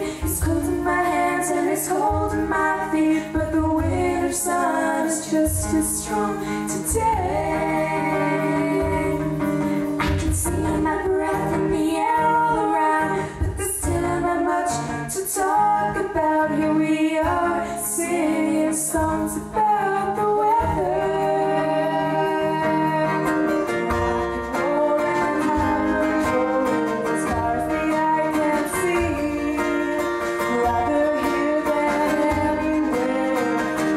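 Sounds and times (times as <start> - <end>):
pop band playing: 0.0 - 33.9
woman singing: 0.0 - 33.9.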